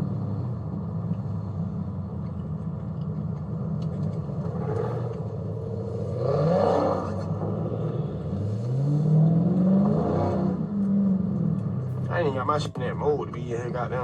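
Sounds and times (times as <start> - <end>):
car engine droning and revving: 0.0 - 14.0.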